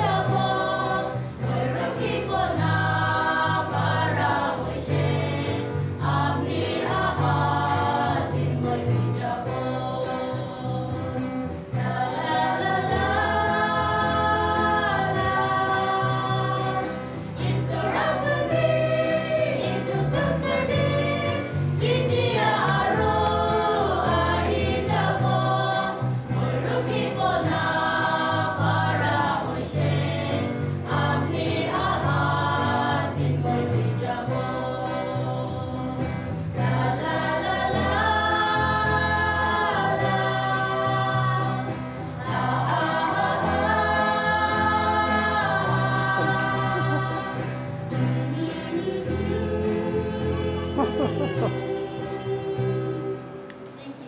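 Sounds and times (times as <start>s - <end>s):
choir singing a hymn: 0.0s - 54.0s
guitar: 0.0s - 54.0s.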